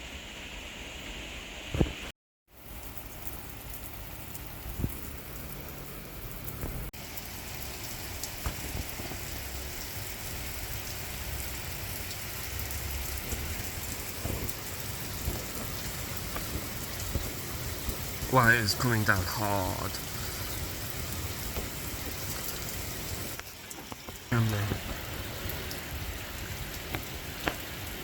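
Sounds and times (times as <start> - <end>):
heavy rain pouring: 2.6 - 28.0.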